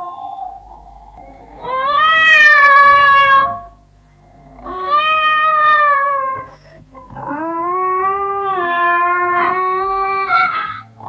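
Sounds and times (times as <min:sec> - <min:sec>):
cat meowing: 0:01.2 - 0:03.8, 0:04.5 - 0:10.9.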